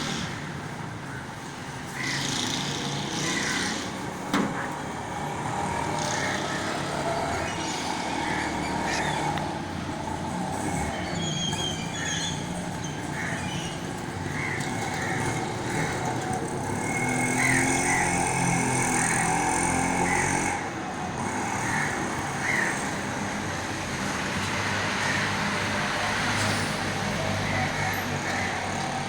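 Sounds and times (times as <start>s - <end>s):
road traffic: 0.0s - 29.0s
vehicle engine hum: 0.0s - 29.0s.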